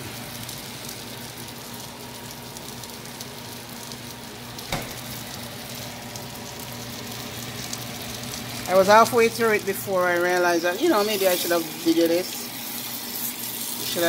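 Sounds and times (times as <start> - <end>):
batter sizzling in a frying pan: 0.0 - 14.0.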